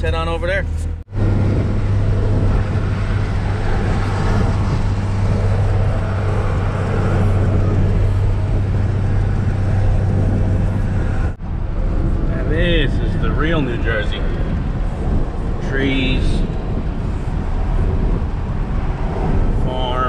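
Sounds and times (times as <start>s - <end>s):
low engine drone: 0.0s - 20.0s
road noise: 0.0s - 20.0s.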